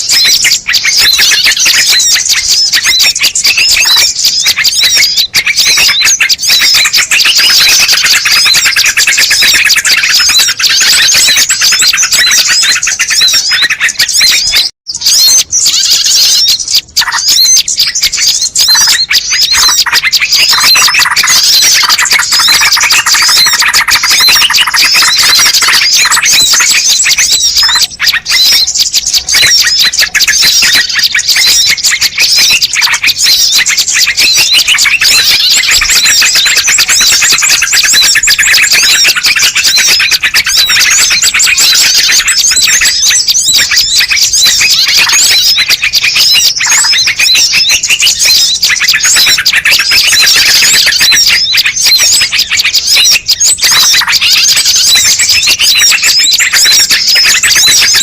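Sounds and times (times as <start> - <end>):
many small birds chirping: 0.0 - 58.0.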